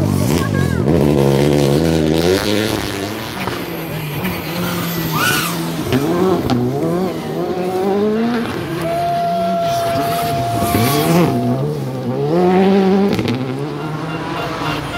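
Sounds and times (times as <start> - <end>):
rally car engines revving: 0.0 - 14.9.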